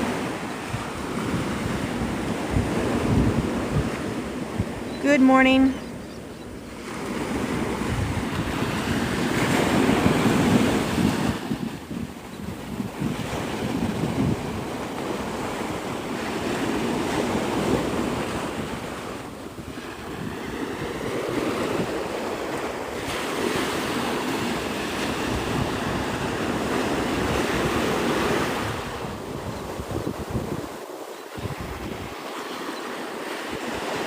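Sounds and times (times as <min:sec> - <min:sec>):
surf washing onto beach: 0:00.0 - 0:05.6, 0:06.7 - 0:34.0
wind rumbling on microphone: 0:00.0 - 0:32.6.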